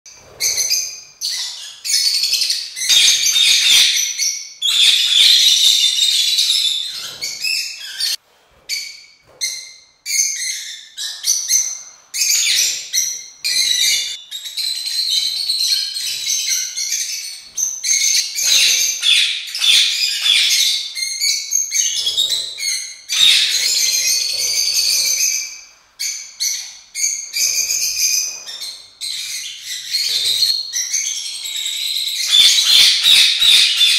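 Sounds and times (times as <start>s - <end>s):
lovebirds chirping and calling: 0.1s - 33.9s.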